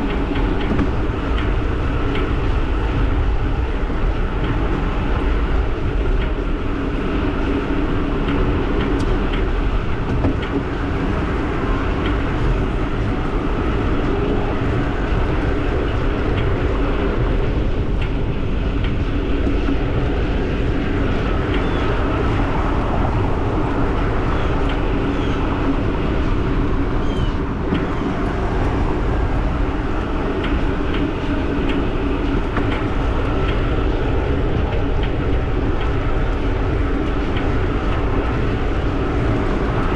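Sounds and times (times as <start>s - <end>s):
bike riding rumble: 0.0s - 39.9s.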